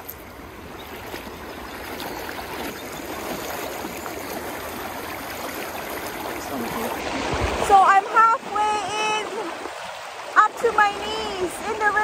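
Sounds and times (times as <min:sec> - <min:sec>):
water splashing around wading legs: 0:00.0 - 0:10.4.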